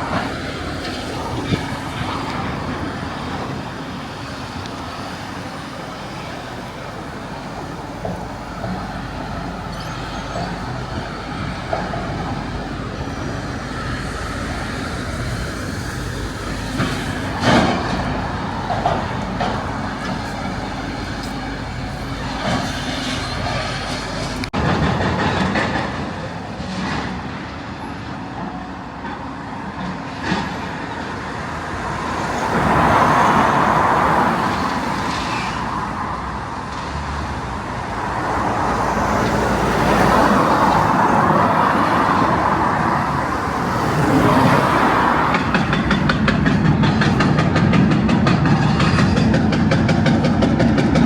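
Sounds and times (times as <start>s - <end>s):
heavy engine noise: 0.0s - 51.0s.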